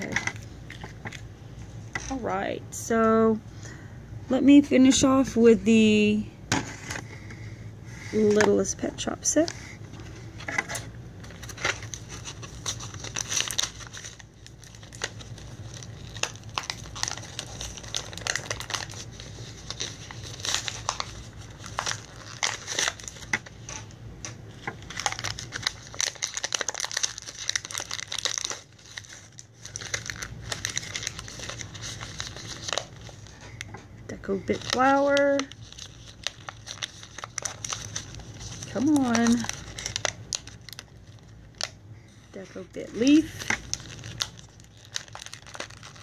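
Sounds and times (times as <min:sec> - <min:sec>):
plastic packaging crinkling and tearing: 0:00.0 - 0:02.4, 0:08.1 - 0:46.0.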